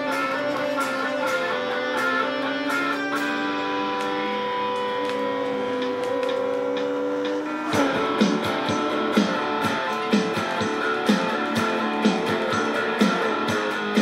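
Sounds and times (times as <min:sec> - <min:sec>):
guitar music: 0:00.0 - 0:14.0.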